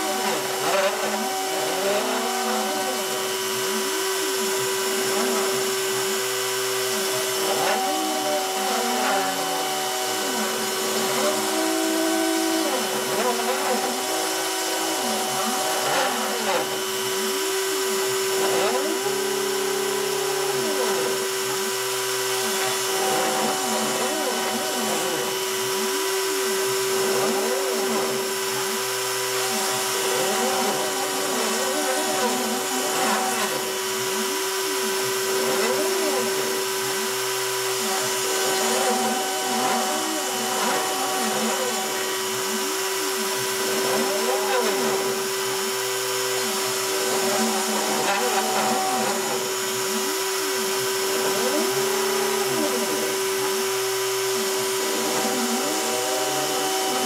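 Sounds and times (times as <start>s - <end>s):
spindle whining: 0.0s - 57.0s
stepper motors whining: 0.0s - 57.0s.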